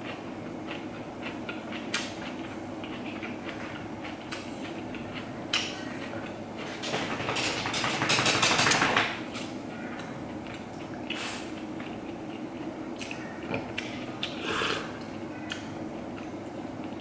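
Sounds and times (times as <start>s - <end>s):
chewing with mouth clicks: 0.0s - 6.8s, 10.0s - 17.0s.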